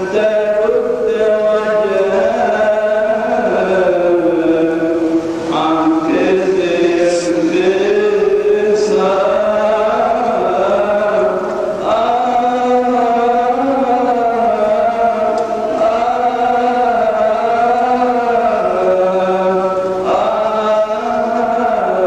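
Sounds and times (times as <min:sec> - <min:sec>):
priest chanting melisma: 0:00.0 - 0:22.0.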